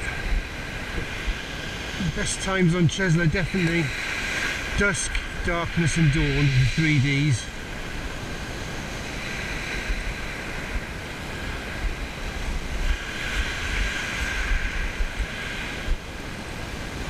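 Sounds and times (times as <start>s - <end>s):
surf breaking on shingle beach: 0.0s - 17.0s
wind buffeting microphone: 0.0s - 17.0s.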